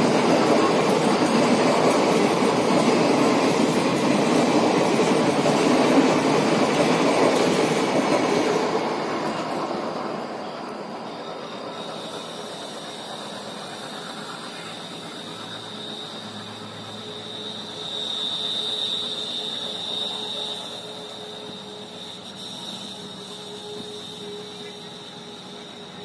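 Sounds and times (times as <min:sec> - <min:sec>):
high whine from rails: 0:00.0 - 0:26.0
train rumble: 0:00.0 - 0:26.0.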